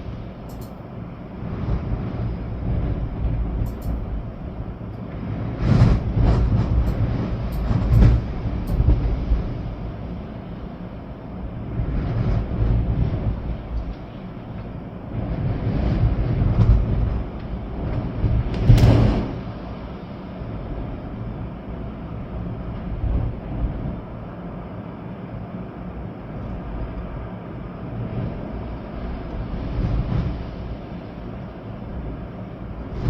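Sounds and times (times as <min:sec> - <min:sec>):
rain: 0:00.0 - 0:33.0
storm wind gusting: 0:00.0 - 0:33.0.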